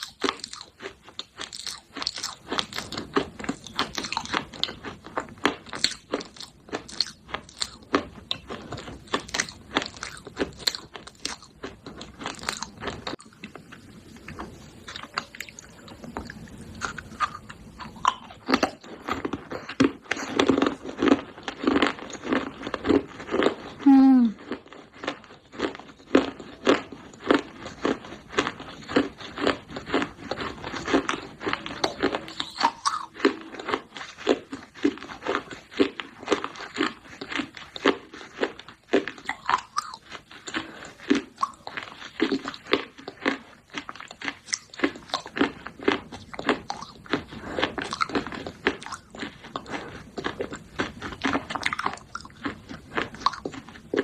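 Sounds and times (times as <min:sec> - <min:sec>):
chewing crunchy clay pot: 0:00.0 - 0:54.0.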